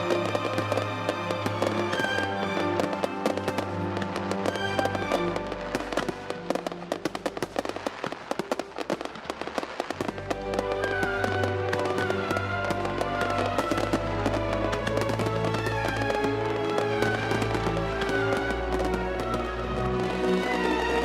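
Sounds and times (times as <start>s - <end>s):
background music: 0.0s - 21.0s
fireworks bangs and crackling: 0.0s - 21.0s.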